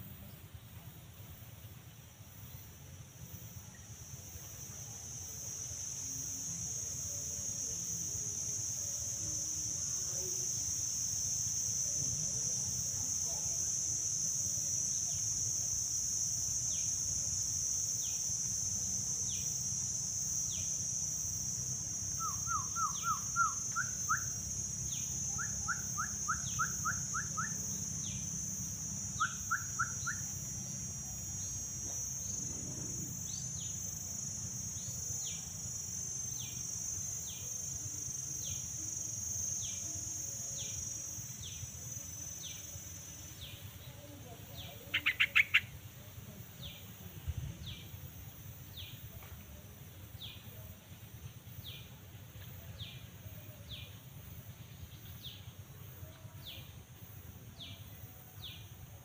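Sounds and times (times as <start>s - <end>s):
high-pitched insect drone: 2.2s - 59.0s.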